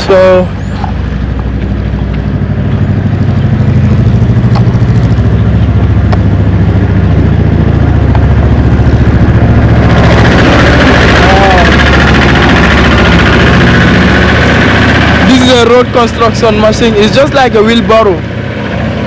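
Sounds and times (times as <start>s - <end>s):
heavy machine engine pulsing: 0.0s - 19.0s.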